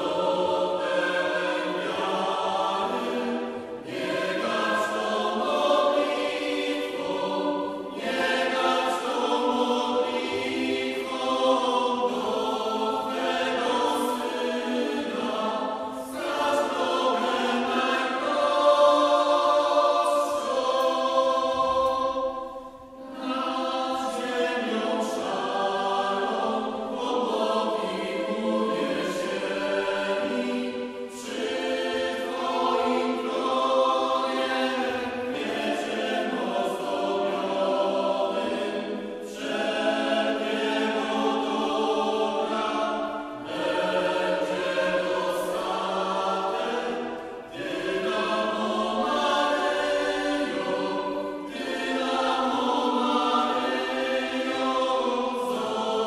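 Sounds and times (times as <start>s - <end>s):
mixed choir singing: 0.0s - 56.0s
string orchestra: 0.0s - 56.0s.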